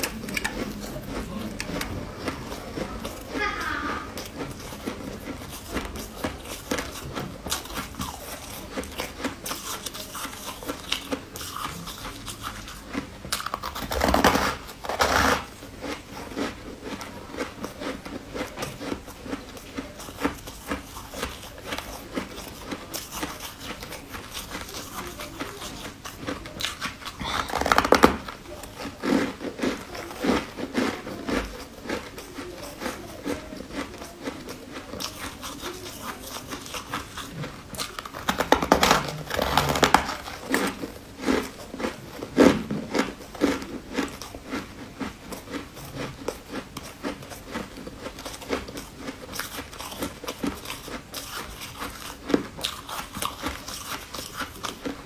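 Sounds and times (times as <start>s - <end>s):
chewing and mouth smacks: 0.0s - 14.8s, 15.4s - 55.0s
biting and tearing bun: 0.0s - 55.0s.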